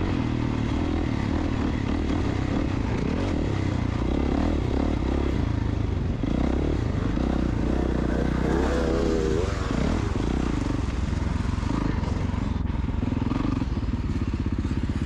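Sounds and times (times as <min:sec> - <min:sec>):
two-stroke dirt bike engine: 0:00.0 - 0:15.0.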